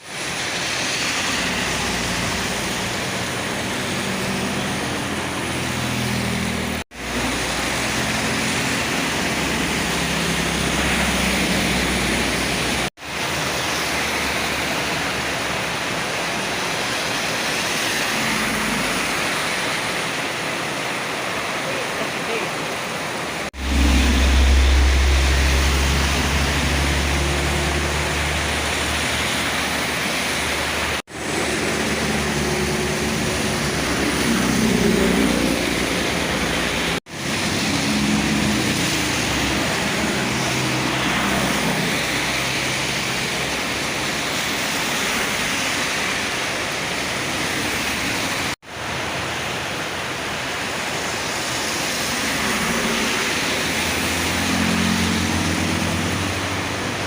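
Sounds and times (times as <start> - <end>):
heavy rain hissing: 0.0 - 57.0
tyres swishing on wet road: 0.0 - 57.0
truck engines passing: 0.2 - 19.7, 23.5 - 46.3, 51.8 - 57.0.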